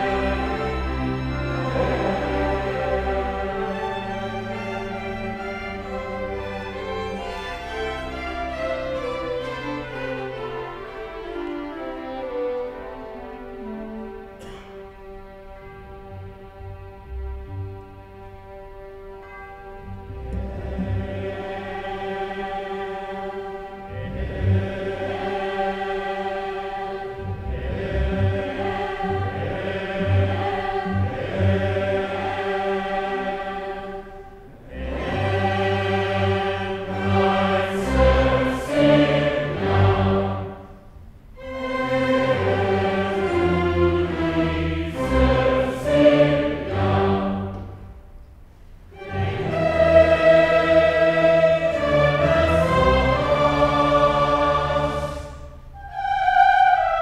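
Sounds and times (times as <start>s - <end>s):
large choir singing: 0.0s - 15.3s, 19.5s - 48.1s, 48.9s - 57.0s
string orchestra: 0.0s - 57.0s.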